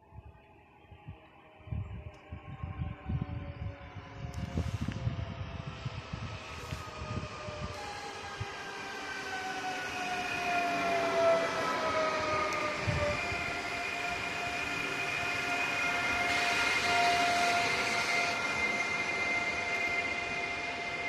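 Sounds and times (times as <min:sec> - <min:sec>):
electric train whine: 0:00.0 - 0:21.0
train wheels rumbling on rail: 0:01.4 - 0:21.0.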